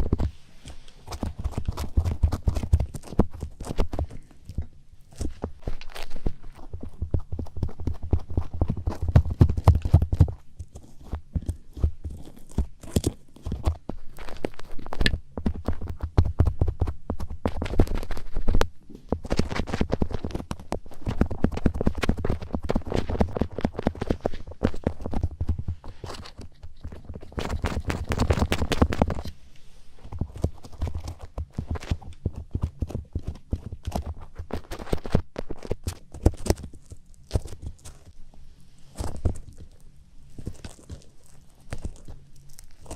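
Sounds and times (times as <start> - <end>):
scratching against microphone: 0.0 - 42.9.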